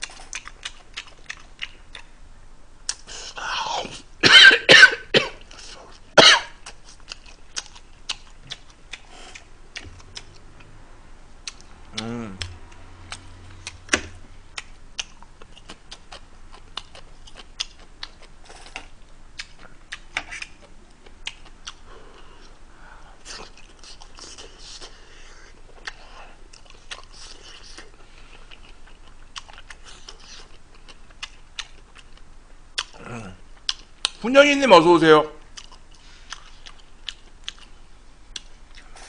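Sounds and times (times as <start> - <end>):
chewing and lip-smacking: 0.0 - 2.1, 2.9 - 3.1, 6.6 - 10.8, 11.4 - 13.9, 14.5 - 22.6, 23.2 - 34.2, 35.5 - 39.0.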